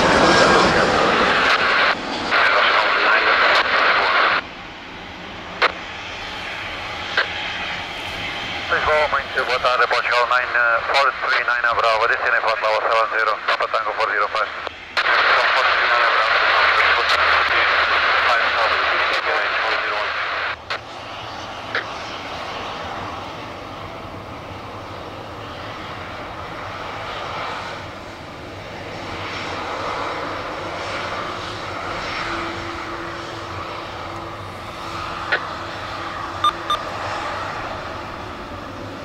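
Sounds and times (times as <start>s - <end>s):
jet engines running: 0.0s - 39.0s.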